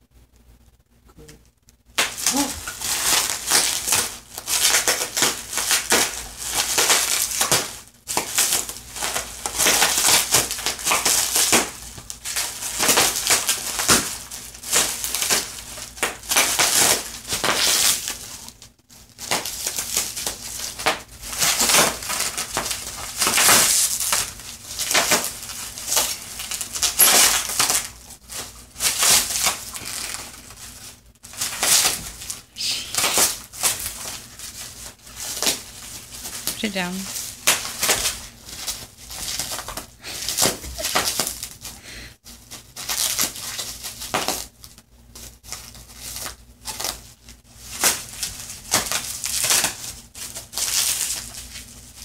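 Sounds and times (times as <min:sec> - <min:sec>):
bubble wrap crinkling and popping: 0:01.9 - 0:52.0.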